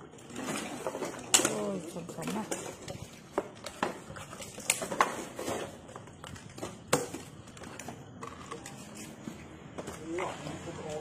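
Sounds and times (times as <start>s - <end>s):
plastic bottles clattering and crinkling: 0.0s - 11.0s.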